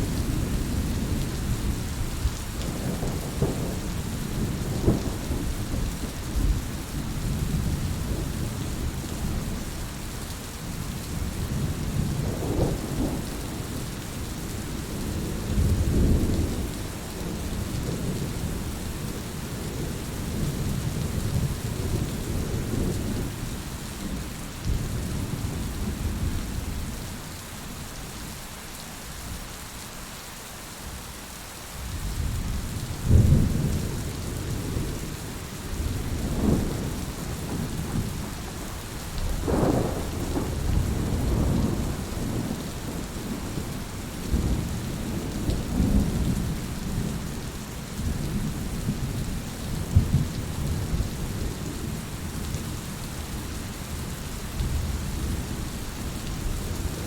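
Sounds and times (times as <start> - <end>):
low rumbling thunder: 0.0 - 9.7, 11.1 - 26.9, 31.9 - 47.3, 48.0 - 57.0
rain hiss: 0.0 - 57.0.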